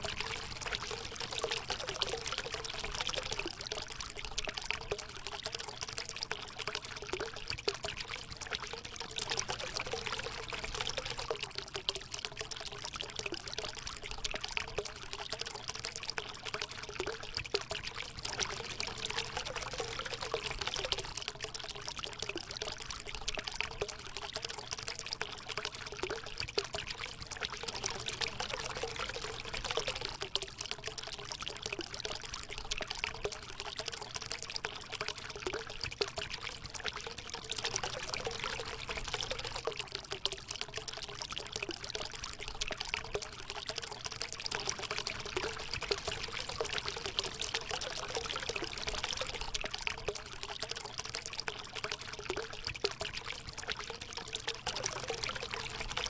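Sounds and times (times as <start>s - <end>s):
water pouring into pool: 0.0s - 56.0s.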